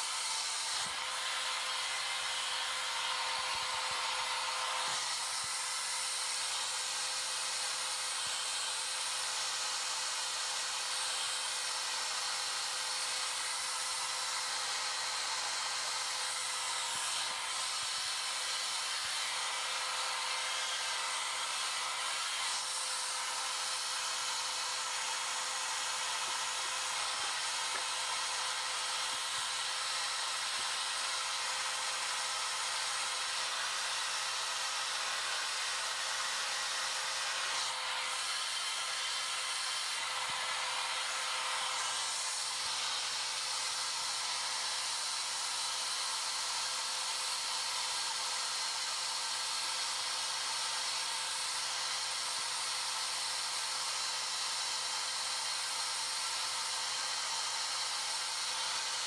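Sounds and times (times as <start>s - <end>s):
blow dryer running: 0.0s - 59.0s.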